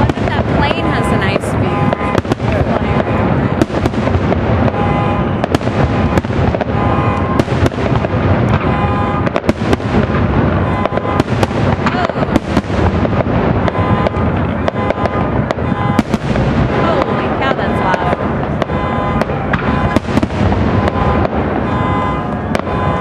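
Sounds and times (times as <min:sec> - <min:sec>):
fireworks bangs and crackle: 0:00.0 - 0:23.0.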